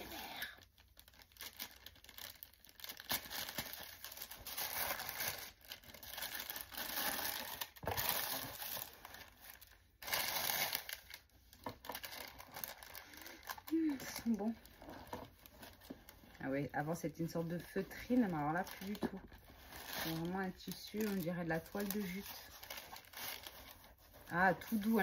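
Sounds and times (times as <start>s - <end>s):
tissue paper crinkling and tearing: 0.0s - 25.0s.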